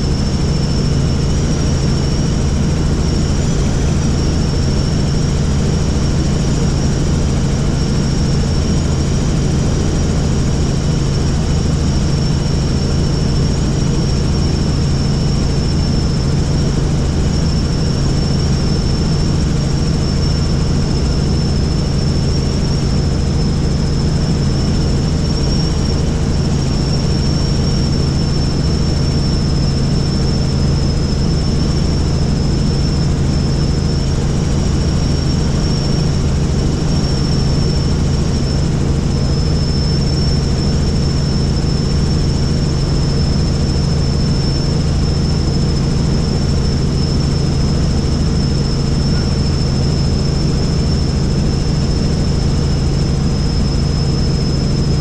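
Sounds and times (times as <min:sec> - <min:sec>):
helicopter running: 0:00.0 - 0:55.0.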